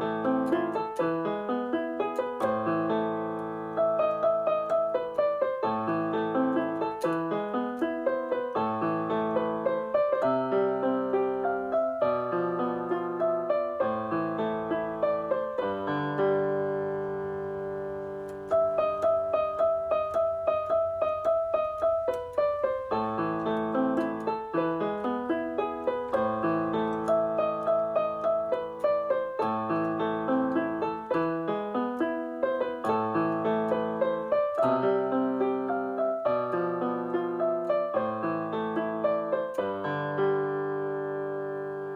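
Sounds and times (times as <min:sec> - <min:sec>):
piano background music: 0:00.0 - 0:41.9.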